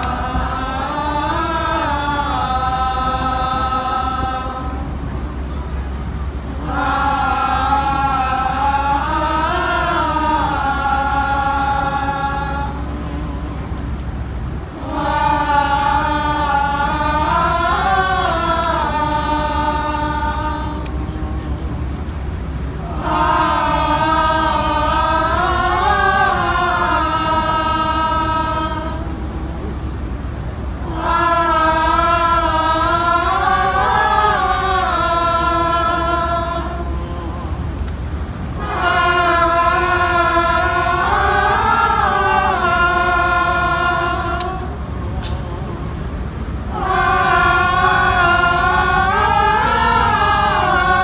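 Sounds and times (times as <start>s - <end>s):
choir singing long notes: 0.0s - 51.0s
steady low hum: 0.0s - 51.0s.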